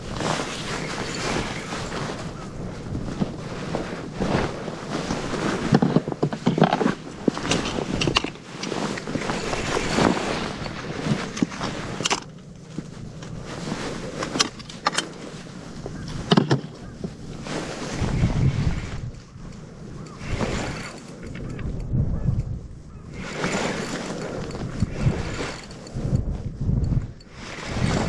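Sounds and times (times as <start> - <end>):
handling noise rustling and knocks: 0.0 - 22.6, 23.2 - 27.3
wind buffeting microphone: 0.0 - 28.0.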